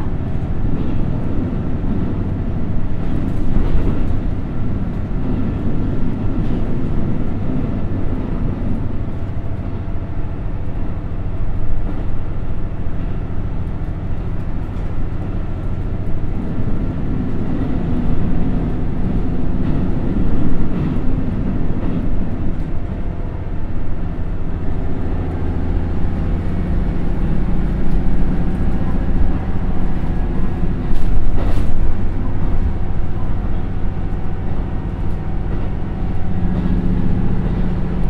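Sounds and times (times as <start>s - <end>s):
diesel engine drone: 0.0s - 38.0s
wheel and rail noise: 0.0s - 38.0s.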